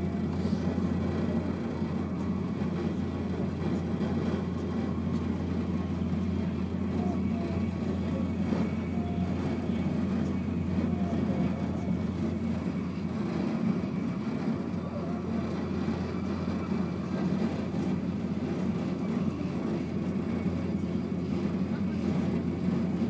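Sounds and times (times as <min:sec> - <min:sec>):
high-speed train rumble inside carriage: 0:00.0 - 0:23.0.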